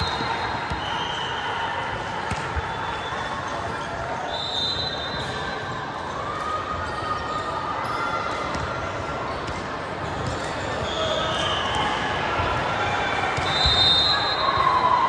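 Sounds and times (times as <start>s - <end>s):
echoing chatter of players: 0.0s - 15.0s.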